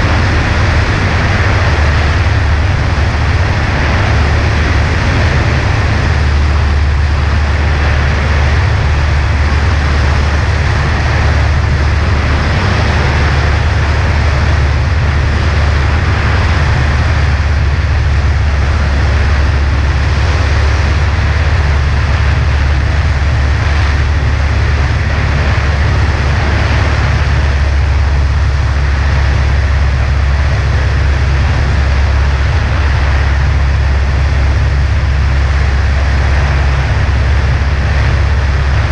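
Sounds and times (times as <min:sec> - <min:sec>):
light aircraft engine droning: 0:00.0 - 0:38.9
rush of air noise: 0:00.0 - 0:38.9.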